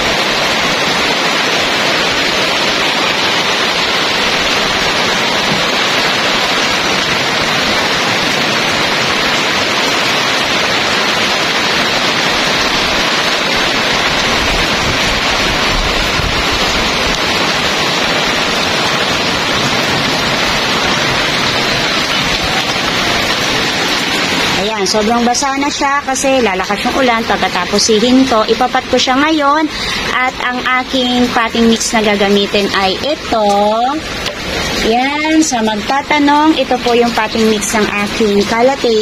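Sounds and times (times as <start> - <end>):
rain on a metal roof: 0.0 - 39.0.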